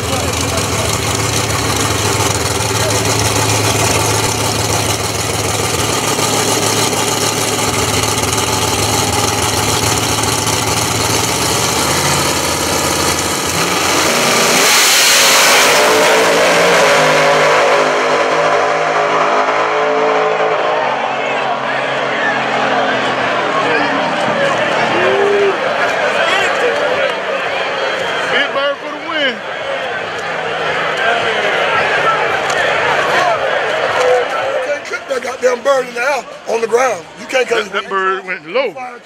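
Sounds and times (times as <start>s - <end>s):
race car engines idling: 0.0s - 14.6s, 15.8s - 39.0s
race car engines revving and launching: 0.0s - 37.9s.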